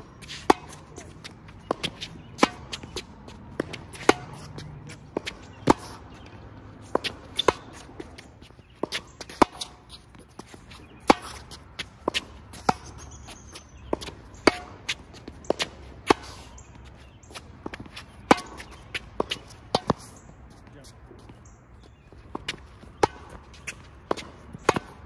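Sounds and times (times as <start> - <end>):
rackets hitting tennis balls: 0.0 - 25.0.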